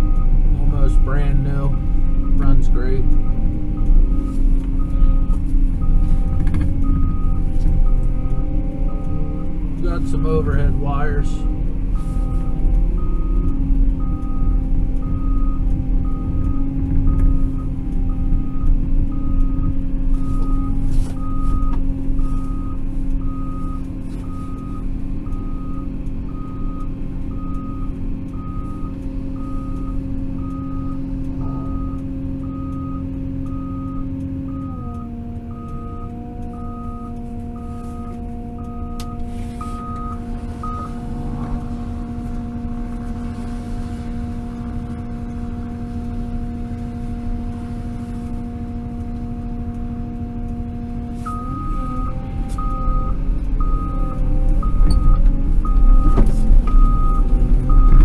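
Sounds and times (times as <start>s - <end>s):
travel alarm beeping: 0.0s - 43.2s, 48.5s - 58.0s
diesel engine humming: 0.0s - 58.0s.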